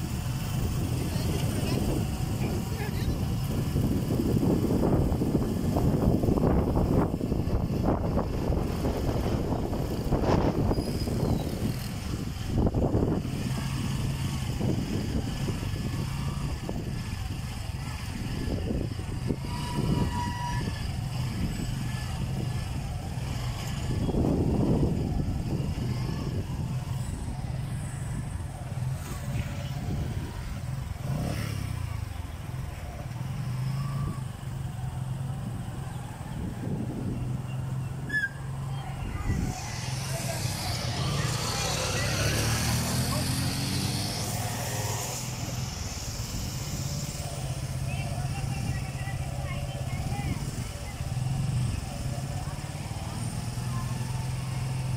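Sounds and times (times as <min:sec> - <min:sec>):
motorcycle engines running: 0:00.0 - 0:54.9
road noise: 0:00.0 - 0:54.9
wind buffeting microphone: 0:00.0 - 0:54.9.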